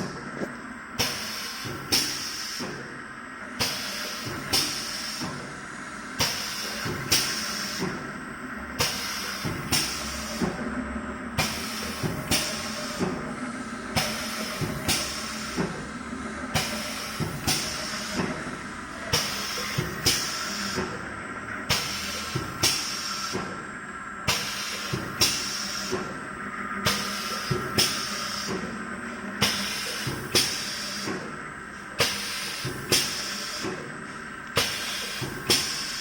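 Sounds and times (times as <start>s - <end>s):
pneumatic cylinders clunking: 0.0s - 5.6s, 6.2s - 8.2s, 8.8s - 10.7s, 11.4s - 26.2s, 26.8s - 28.8s, 29.4s - 36.0s
steady machine hum: 0.0s - 36.0s.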